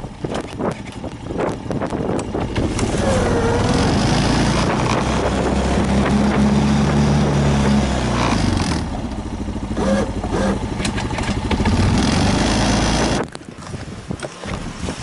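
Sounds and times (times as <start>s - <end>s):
engine humming: 0.0s - 14.8s.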